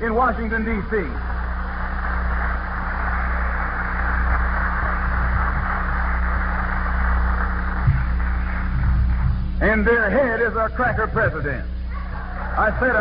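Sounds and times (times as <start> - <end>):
audience applauding: 0.0 - 11.0, 11.9 - 13.0.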